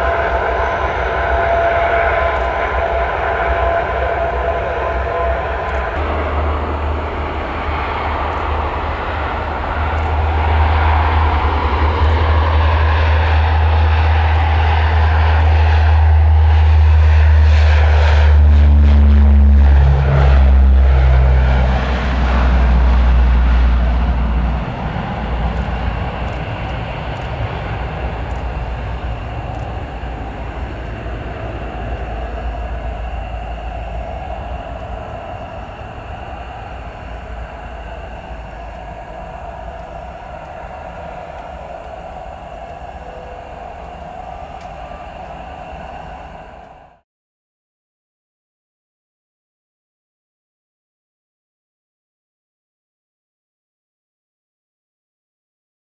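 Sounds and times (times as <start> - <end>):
deep propeller drone: 0.0 - 47.0.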